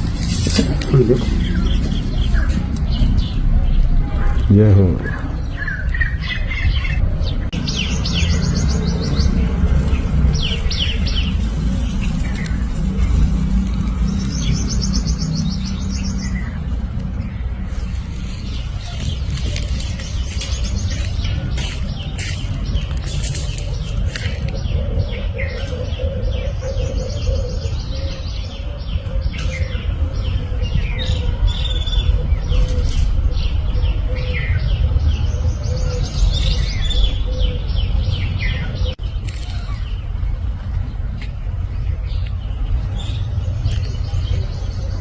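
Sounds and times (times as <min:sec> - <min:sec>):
birds chirping: 0:00.0 - 0:45.0
steady low rumble: 0:00.0 - 0:45.0.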